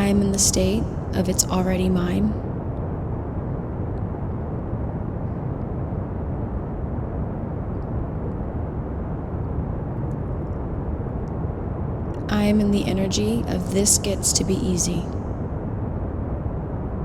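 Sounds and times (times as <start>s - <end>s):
pink noise hiss: 0.0s - 6.5s, 7.2s - 15.2s.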